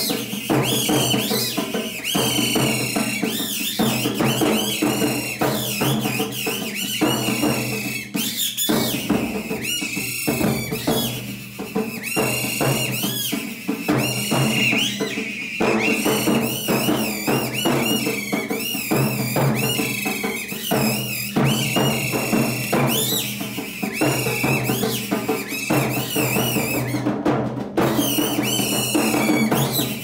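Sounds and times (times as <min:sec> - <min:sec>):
reed whistle squeaking: 0:00.0 - 0:27.1, 0:27.8 - 0:30.0
rapid galloping drumming: 0:00.0 - 0:30.0.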